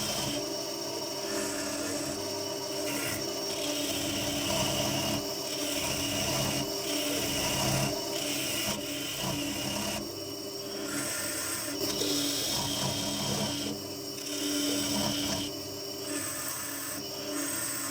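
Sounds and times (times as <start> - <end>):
turning tool cutting wood: 0.0 - 0.6, 1.2 - 10.1, 10.7 - 17.9
lathe motor hum: 0.0 - 17.9.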